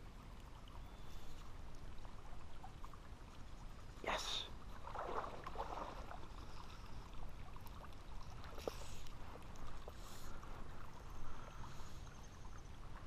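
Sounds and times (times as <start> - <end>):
small stream running: 0.0 - 13.0.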